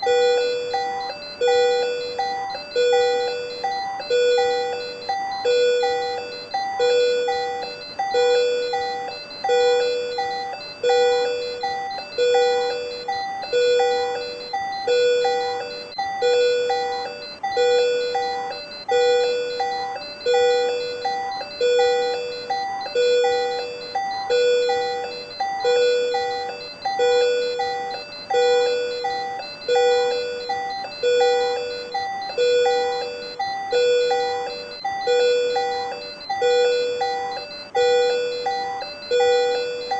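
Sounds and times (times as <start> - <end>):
patient monitor alarm tone: 0.0 - 39.9.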